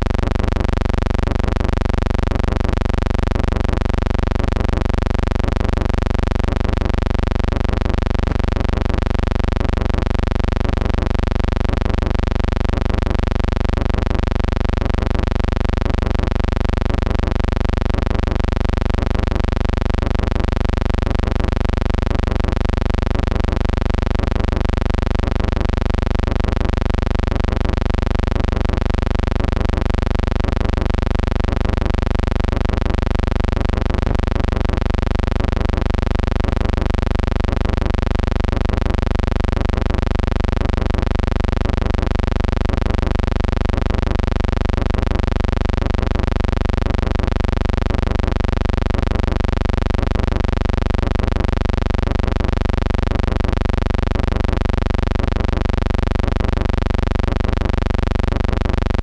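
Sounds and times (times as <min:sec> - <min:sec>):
electrical buzzing hum: 0:00.0 - 0:59.0.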